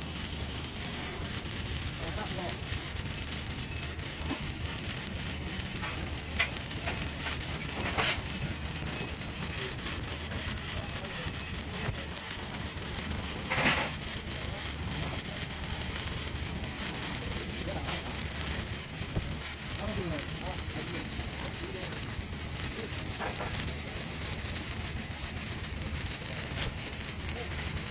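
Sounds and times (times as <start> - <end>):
welding arc crackling hiss: 0.0 - 27.9
welding arc spits: 0.0 - 27.9.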